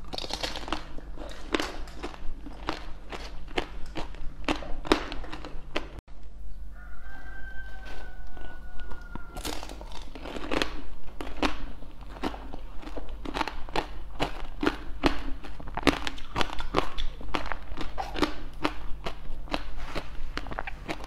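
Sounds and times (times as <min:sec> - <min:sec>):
crunchy chewing: 0:00.0 - 0:06.0, 0:07.2 - 0:21.0.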